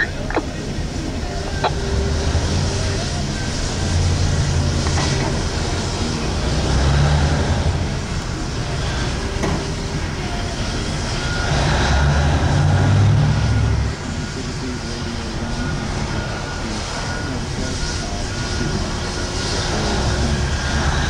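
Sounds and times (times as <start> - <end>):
heavy machinery engine drone: 0.0 - 21.0.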